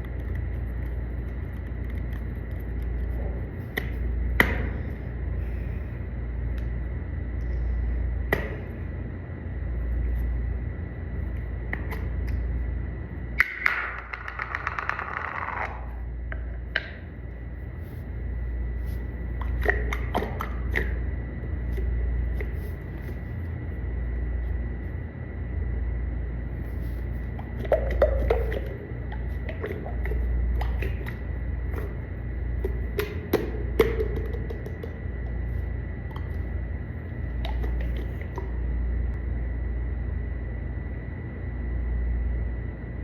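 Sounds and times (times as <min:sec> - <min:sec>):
faint high whine: 0:00.0 - 0:43.0
steady low rumble: 0:00.0 - 0:43.0.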